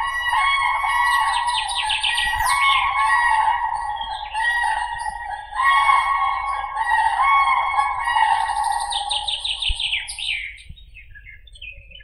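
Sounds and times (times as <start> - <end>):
cranes trumpeting calls: 0.0 - 10.1.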